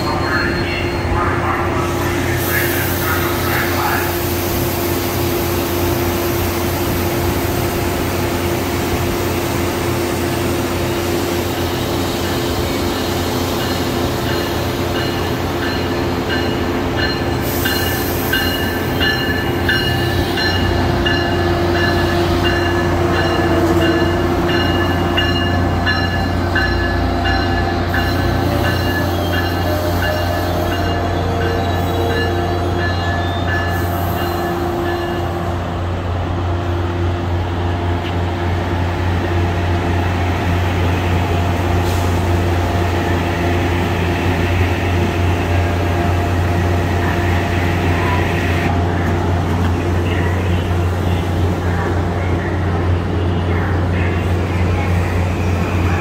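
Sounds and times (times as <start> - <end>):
train rolling past platform: 0.0 - 56.0.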